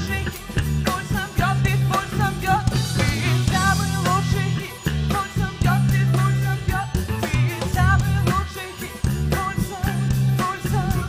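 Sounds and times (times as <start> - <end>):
live band playing: 0.0 - 11.0
woman singing: 0.0 - 11.0.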